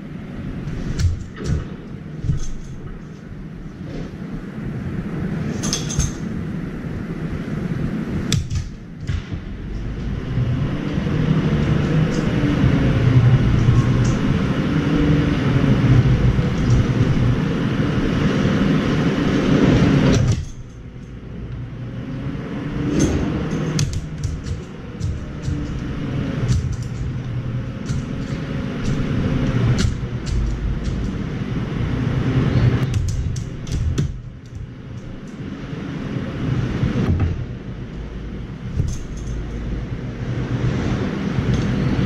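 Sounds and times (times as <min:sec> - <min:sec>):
low rumble: 0:00.0 - 0:42.0.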